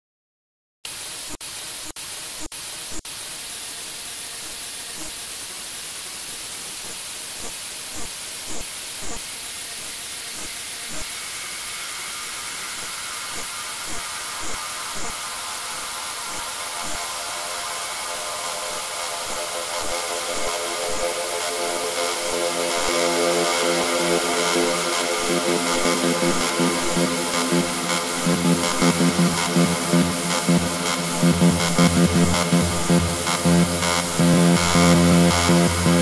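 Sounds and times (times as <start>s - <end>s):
electronic hissing noise: 0.9s - 36.0s
faint sustained tones: 3.2s - 36.0s.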